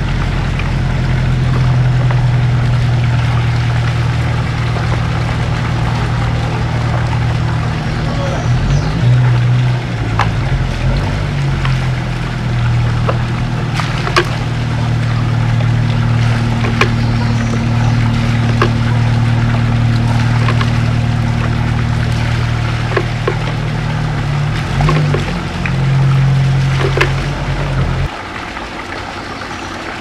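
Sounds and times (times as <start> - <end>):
steady low hum: 0.0 - 28.2
water pouring from a pipe: 0.0 - 30.0
water splashing: 0.0 - 30.0.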